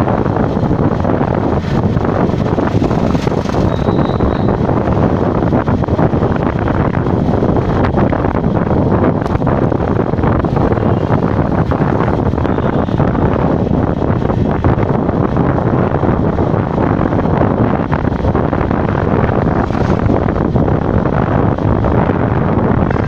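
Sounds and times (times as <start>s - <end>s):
vehicle road noise: 0.0s - 23.0s
wind buffeting microphone: 0.0s - 23.0s.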